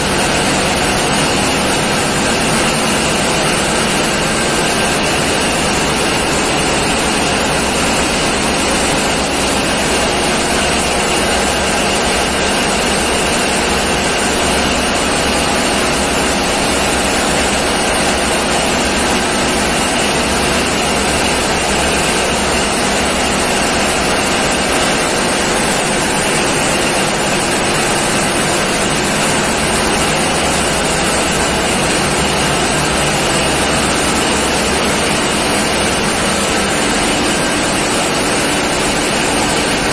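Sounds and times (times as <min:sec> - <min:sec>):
diesel engine room machinery: 0:00.0 - 0:39.9.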